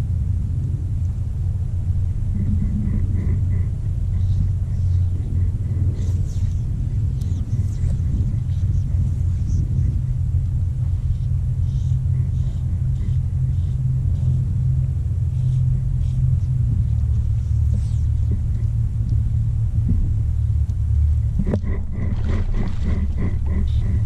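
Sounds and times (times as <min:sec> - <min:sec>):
low microphone rumble: 0:00.0 - 0:24.0.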